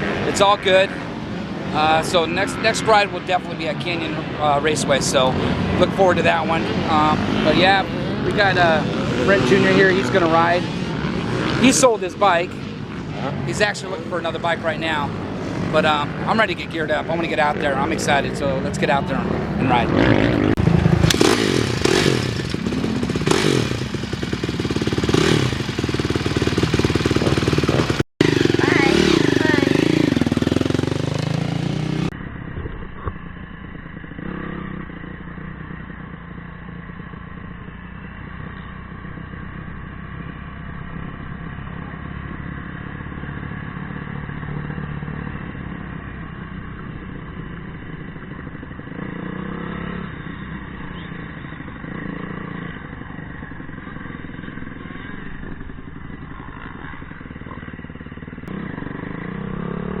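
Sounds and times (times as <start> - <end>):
dirt bike engine revving: 0.0 - 32.2, 33.2 - 60.0.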